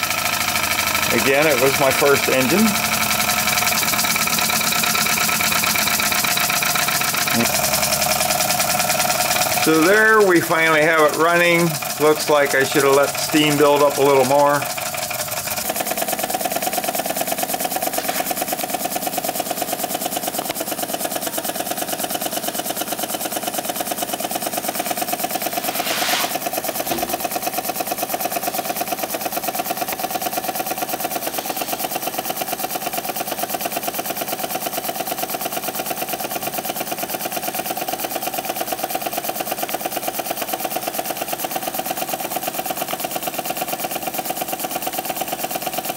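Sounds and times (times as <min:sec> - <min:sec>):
steam engine chuffing: 0:00.0 - 0:45.9.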